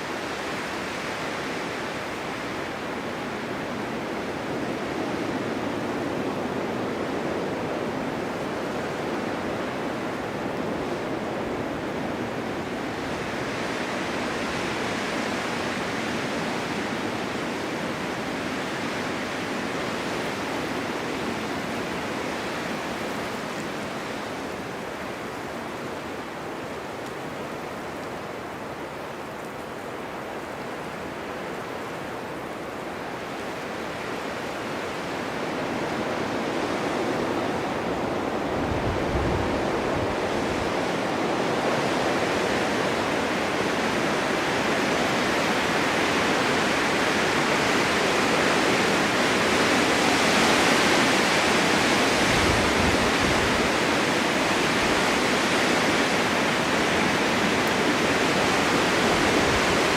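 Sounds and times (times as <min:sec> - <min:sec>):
blizzard wind rushing: 0:00.0 - 0:59.9.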